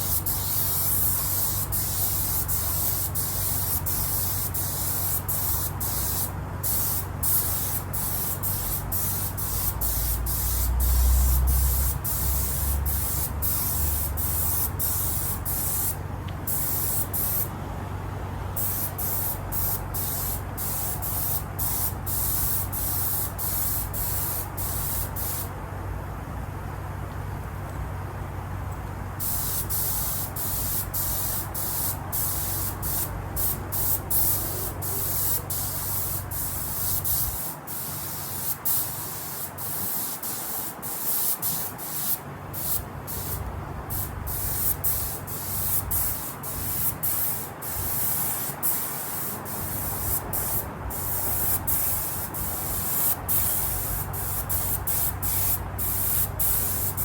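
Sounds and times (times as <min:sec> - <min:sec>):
paint spray gun hissing bursts: 0:00.0 - 0:17.5, 0:18.6 - 0:25.5, 0:29.2 - 0:57.0.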